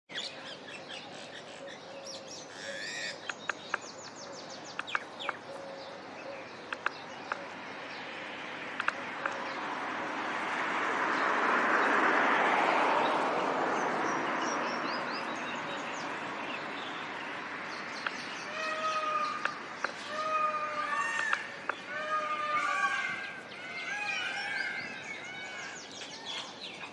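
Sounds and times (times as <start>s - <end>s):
birds chirping: 0.1s - 12.0s, 12.7s - 26.9s.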